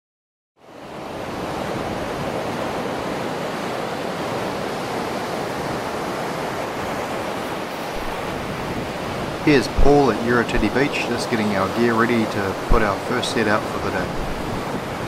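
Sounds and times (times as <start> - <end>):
surf breaking on beach: 0.8 - 15.0.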